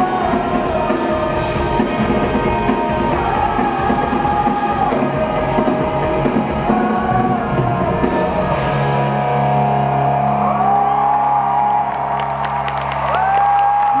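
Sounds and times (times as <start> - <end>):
electric guitar sliding notes: 0.0 - 11.7
live rock band playing: 0.0 - 13.4.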